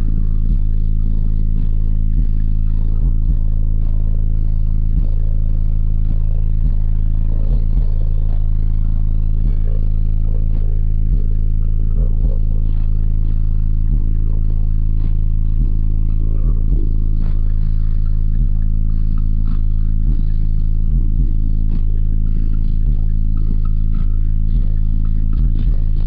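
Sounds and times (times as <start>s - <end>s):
bass-heavy music from subwoofers: 0.0s - 26.0s.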